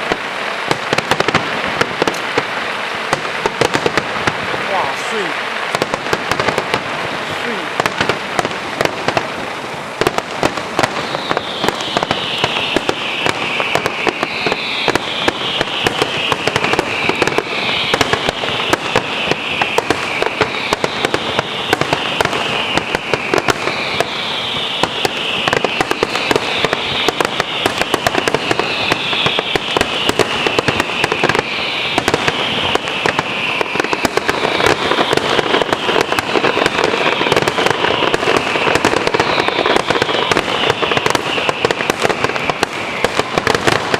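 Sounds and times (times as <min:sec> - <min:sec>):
falling firework whistles: 0:00.0 - 0:43.9
fireworks crackling and banging: 0:00.0 - 0:43.9.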